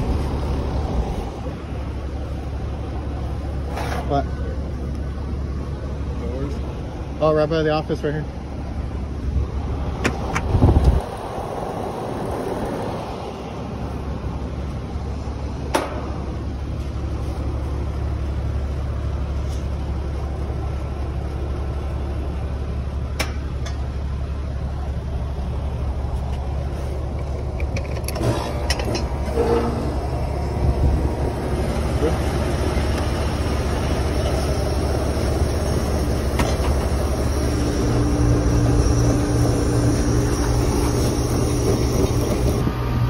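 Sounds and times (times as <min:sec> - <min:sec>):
air conditioner condenser humming: 0:00.0 - 0:43.0.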